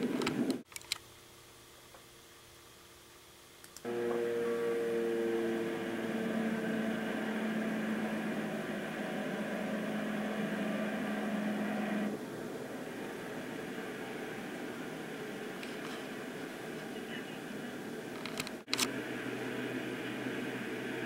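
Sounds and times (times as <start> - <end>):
boat engine drone with hiss: 3.8 - 21.0
low hum: 3.8 - 21.0.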